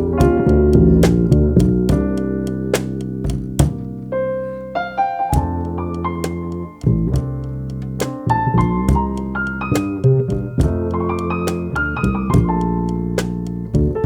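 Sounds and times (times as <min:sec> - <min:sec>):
drums keeping time: 0:00.0 - 0:03.9, 0:05.4 - 0:14.0
bass notes: 0:00.0 - 0:14.0.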